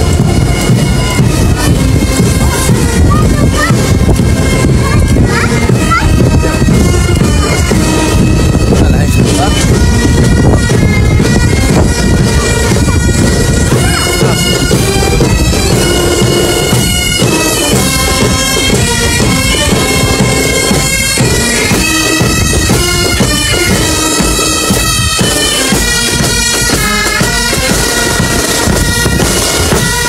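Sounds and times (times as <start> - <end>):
pipe band playing bagpipes: 0.0 - 30.0.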